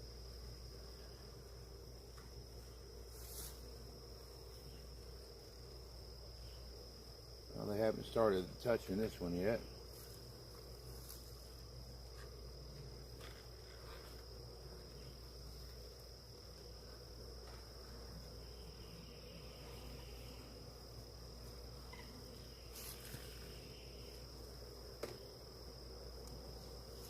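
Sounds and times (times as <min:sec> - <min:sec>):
honeybees humming: 0:00.0 - 0:27.0
high-pitched insect drone: 0:02.6 - 0:27.0.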